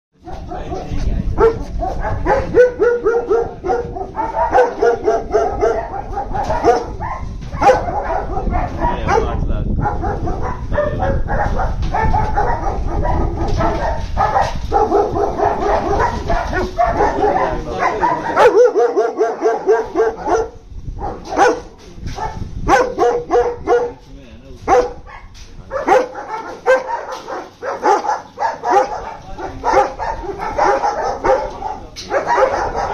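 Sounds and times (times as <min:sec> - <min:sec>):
dogs barking: 0:00.2 - 0:32.9.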